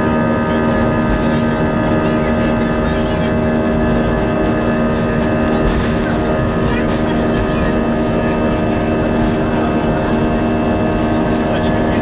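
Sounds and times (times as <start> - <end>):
jet engines humming in cabin: 0.0 - 12.0.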